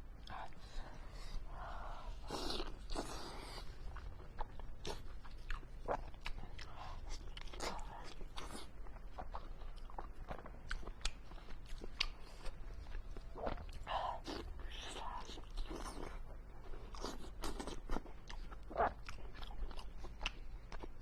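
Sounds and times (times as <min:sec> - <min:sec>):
wet chewing: 0:00.2 - 0:21.0.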